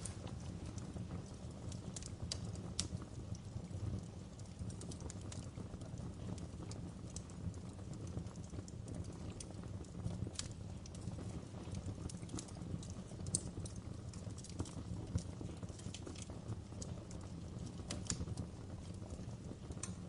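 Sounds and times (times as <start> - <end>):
low rumble of burning logs: 0.0 - 20.0
wood fire crackling: 0.0 - 20.0.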